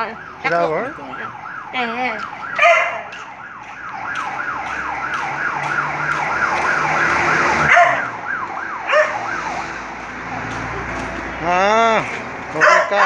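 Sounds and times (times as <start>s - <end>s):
siren yelping: 0.0s - 13.0s.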